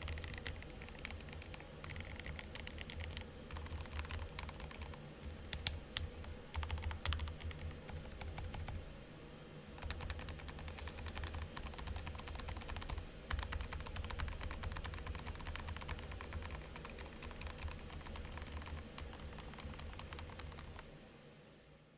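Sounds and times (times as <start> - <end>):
fast keyboard typing: 0.0 - 8.8, 9.8 - 20.8.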